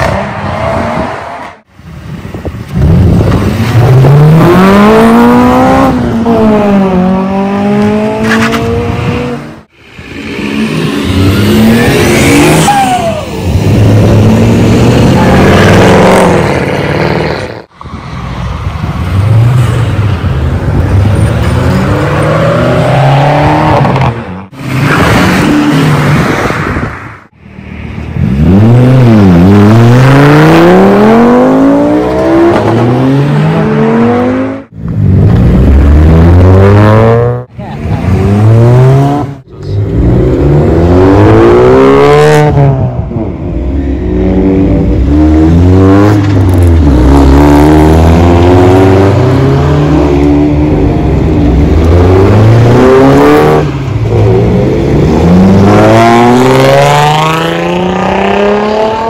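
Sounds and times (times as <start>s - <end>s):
cars accelerating and revving: 0.0s - 59.0s.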